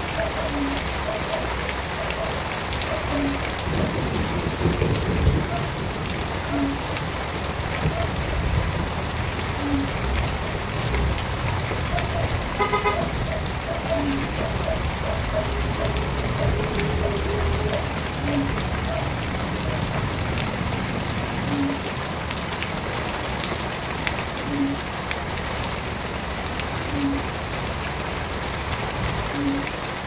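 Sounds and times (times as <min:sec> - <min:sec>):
stream water trickling over stones: 0:00.0 - 0:30.0.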